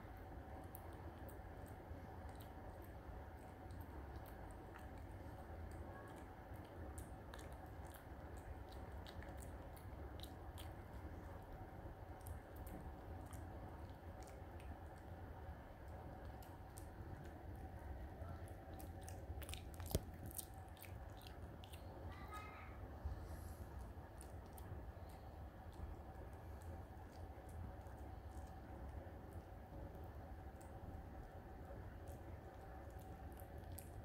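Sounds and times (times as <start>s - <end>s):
teeth clicking on chew: 0.2s - 22.1s, 23.8s - 34.0s
dog chewing: 0.5s - 22.3s, 23.7s - 29.5s, 30.4s - 34.0s.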